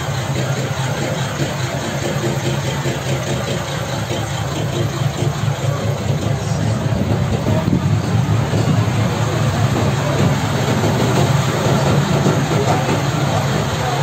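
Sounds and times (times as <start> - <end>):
heavy vehicle engine idling: 0.0 - 14.0
traffic noise: 0.0 - 14.0.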